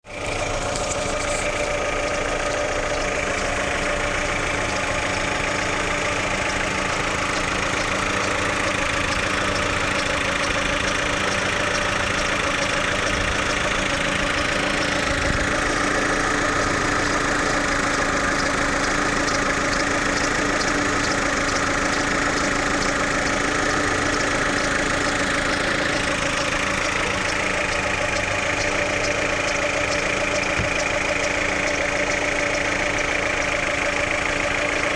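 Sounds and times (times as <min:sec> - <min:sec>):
car engine idling: 0:00.0 - 0:34.9
fast fine ticking: 0:00.1 - 0:34.9.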